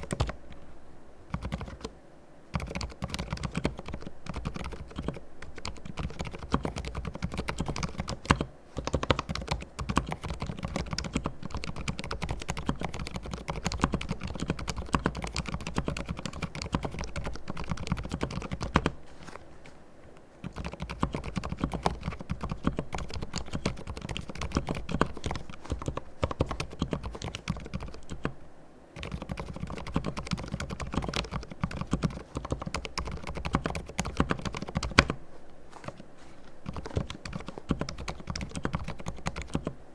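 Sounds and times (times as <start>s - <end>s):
fast typing on mechanical keyboard: 0.0s - 0.4s, 1.3s - 1.9s, 2.5s - 19.0s, 20.4s - 28.4s, 29.0s - 35.2s, 36.6s - 39.8s.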